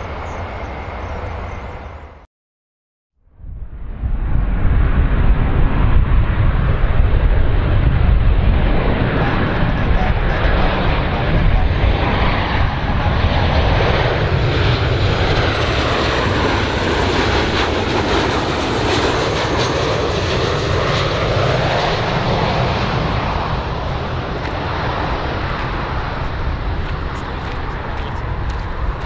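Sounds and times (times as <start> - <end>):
jet engine rush: 3.4 - 29.0.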